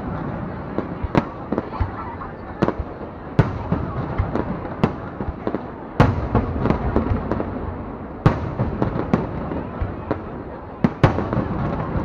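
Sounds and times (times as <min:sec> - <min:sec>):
fireworks bangs: 0:00.0 - 0:12.0
fireworks crackling pops: 0:00.0 - 0:12.0.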